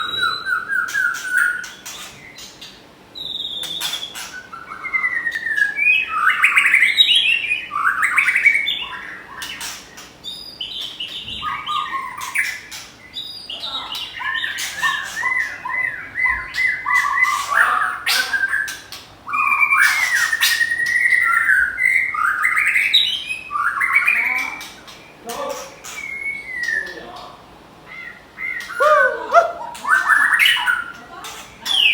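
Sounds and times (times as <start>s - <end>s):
birds singing whistled phrases: 0.0s - 27.2s, 27.8s - 31.9s.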